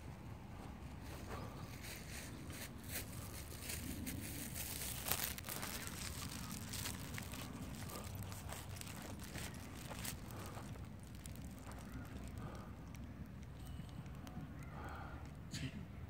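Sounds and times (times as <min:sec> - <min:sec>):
footsteps on dry grass: 0:00.1 - 0:13.4.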